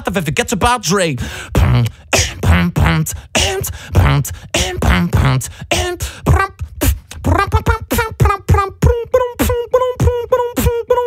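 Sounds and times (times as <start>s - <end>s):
person beatboxing: 0.0s - 11.0s
held pitched vocal tones: 1.0s - 11.0s.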